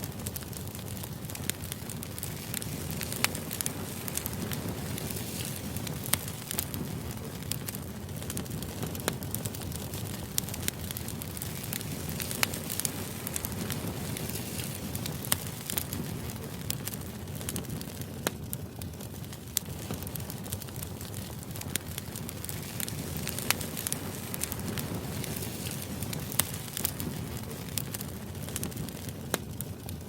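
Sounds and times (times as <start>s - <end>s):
sharp crackles: 0.0s - 30.0s.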